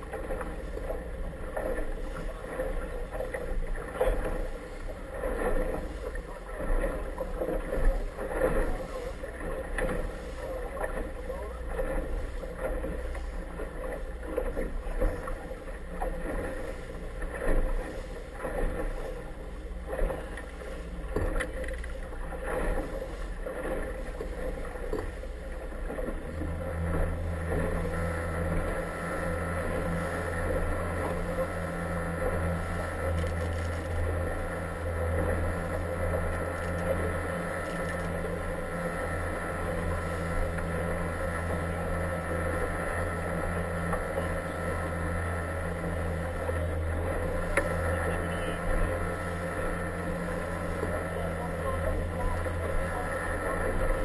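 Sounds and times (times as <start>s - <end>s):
deep engine hum: 0.0s - 54.0s
motorboat engine running: 0.0s - 54.0s
water slapping against hull: 0.0s - 54.0s.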